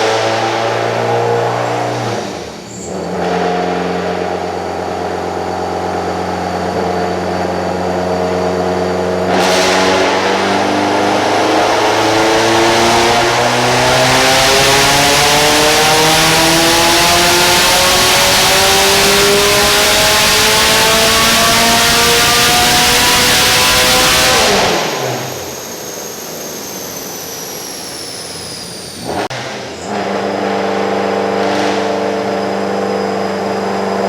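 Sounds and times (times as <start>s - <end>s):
car engine revving on a dyno: 0.0s - 34.0s.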